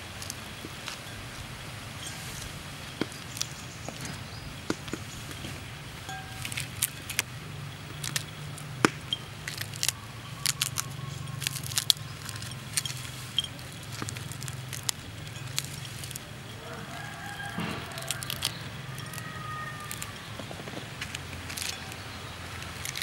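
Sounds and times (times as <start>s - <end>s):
grilled fish crackling and snapping: 0.0s - 23.0s.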